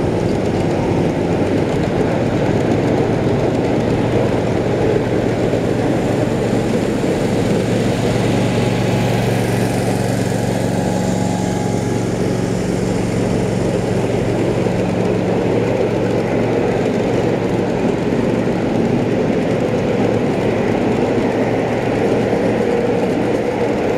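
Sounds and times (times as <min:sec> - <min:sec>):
locomotive engine hum: 0:00.0 - 0:23.9
riding train rolling on rails: 0:00.0 - 0:23.9.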